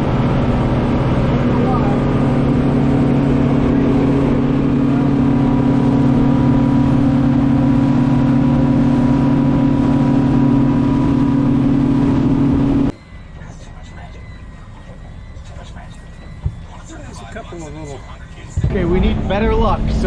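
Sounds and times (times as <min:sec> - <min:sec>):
motorboat engine humming: 0:00.0 - 0:20.0.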